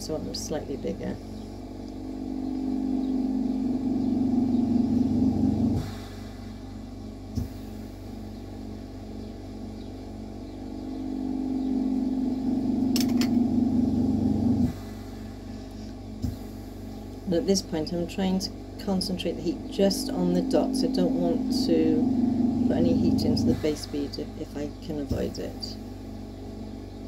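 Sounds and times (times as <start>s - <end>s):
background drone: 0.0s - 27.0s
low mechanical hum: 0.0s - 27.0s.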